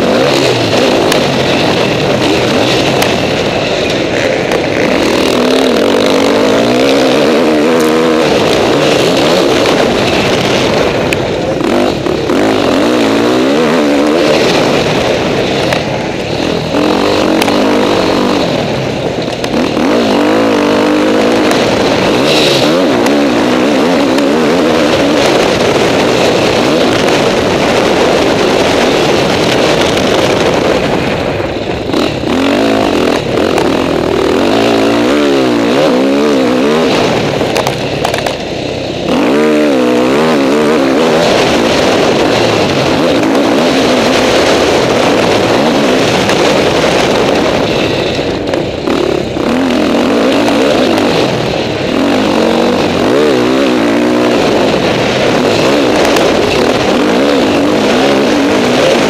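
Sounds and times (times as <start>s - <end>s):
motocross engine revving: 0.0s - 59.0s
wind on microphone: 0.0s - 59.0s.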